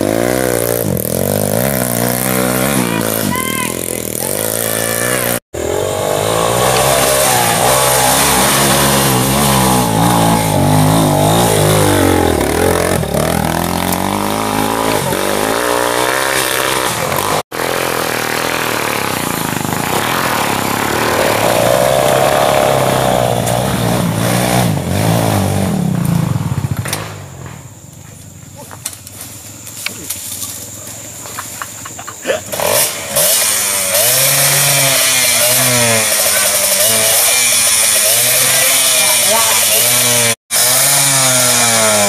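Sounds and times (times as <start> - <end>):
motorcycle engines revving: 0.0 - 29.0, 29.6 - 42.0.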